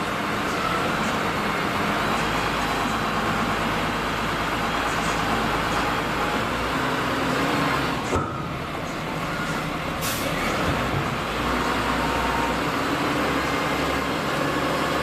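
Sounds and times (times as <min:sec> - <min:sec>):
diesel machinery running: 0:00.0 - 0:15.0.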